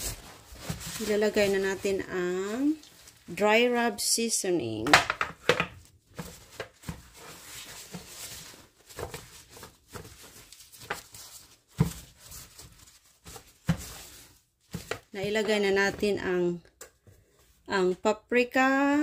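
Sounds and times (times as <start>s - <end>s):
paper towel and gloves crinkling: 0.0s - 4.8s, 5.8s - 16.6s.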